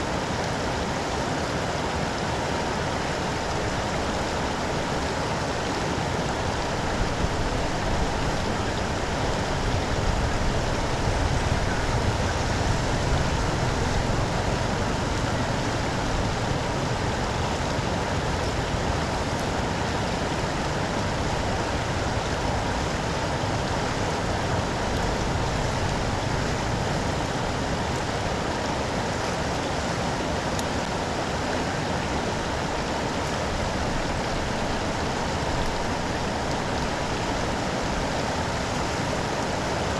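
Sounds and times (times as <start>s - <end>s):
floodwater rushing down a drain: 0.0s - 39.9s
rain falling: 0.0s - 39.9s.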